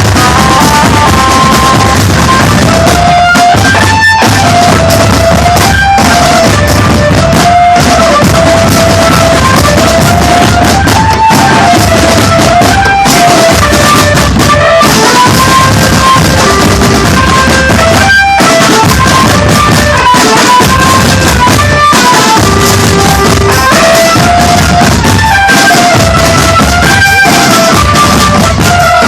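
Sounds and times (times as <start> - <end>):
drum band playing: 0.0 - 29.0
snare and bass drums: 0.0 - 29.0.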